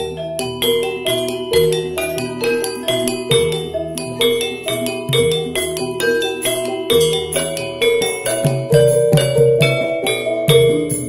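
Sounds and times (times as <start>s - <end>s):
gamelan gong-chimes ringing: 0.0s - 11.0s.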